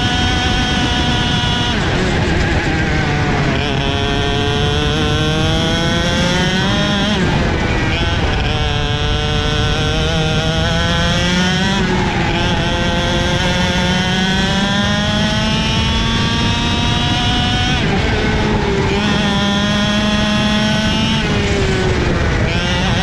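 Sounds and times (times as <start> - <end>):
kart engine revving: 0.0 - 23.0.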